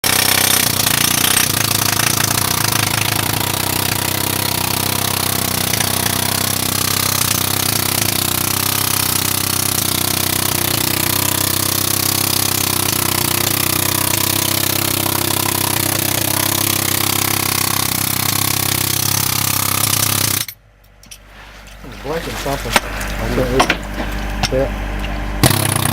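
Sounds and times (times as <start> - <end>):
jackhammer hammering on metal: 0.0 - 20.6, 22.1 - 25.9.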